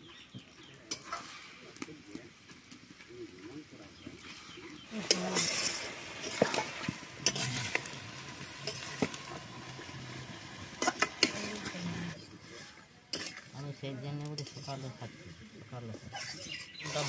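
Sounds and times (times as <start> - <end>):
chicken sizzling: 0.0 - 17.0.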